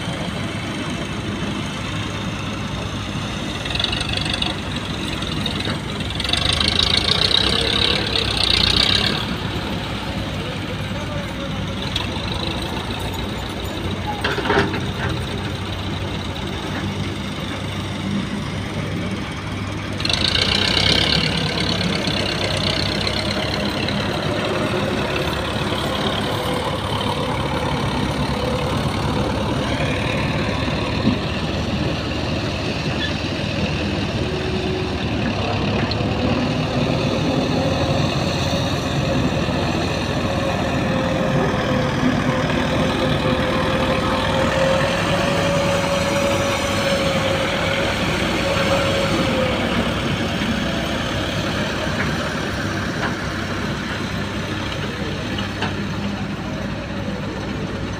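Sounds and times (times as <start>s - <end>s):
heavy diesel engines running: 0.0s - 57.9s.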